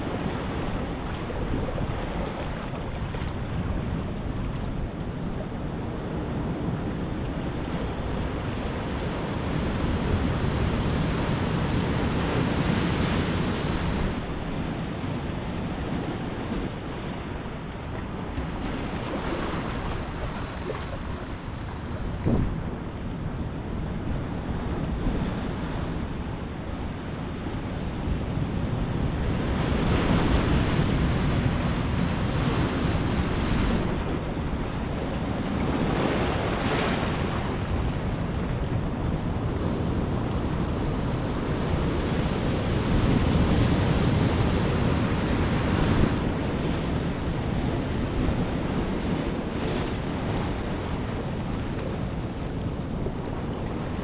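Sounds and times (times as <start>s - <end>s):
ocean surf washing ashore: 0.0s - 23.1s, 26.7s - 54.0s
wind rumble on microphone: 0.0s - 54.0s.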